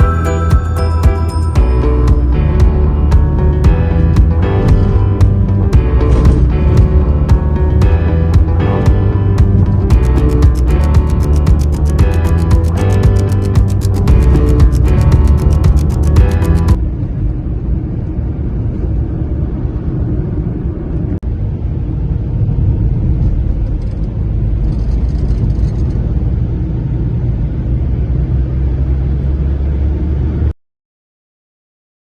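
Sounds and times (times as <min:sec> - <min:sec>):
low rumbling noise: 0:00.0 - 0:30.5.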